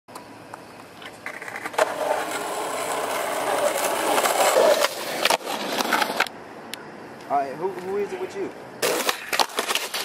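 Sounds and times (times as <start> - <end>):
skateboard wheels rolling on asphalt: 0.1 - 6.7, 7.5 - 10.0.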